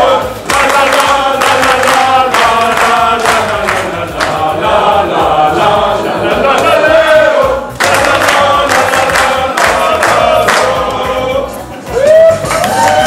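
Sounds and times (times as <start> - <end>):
group singing in chorus: 0.0 - 11.9.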